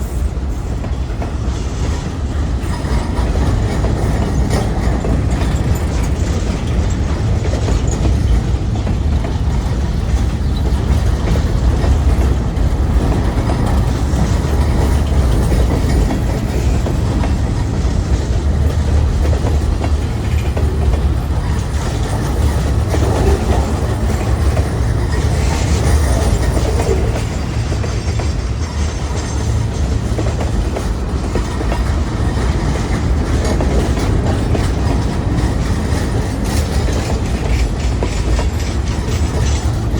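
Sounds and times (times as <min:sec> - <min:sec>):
freight train cars rumbling past: 0:00.0 - 0:39.9.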